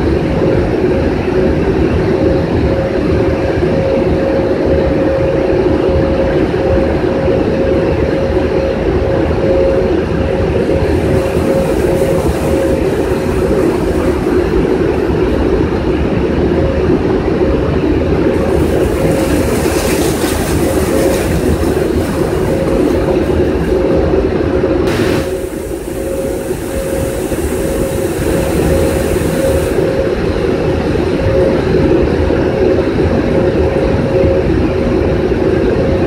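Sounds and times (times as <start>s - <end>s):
dryer blowers rushing air: 0.0s - 36.0s
steady motor hum: 0.0s - 36.0s.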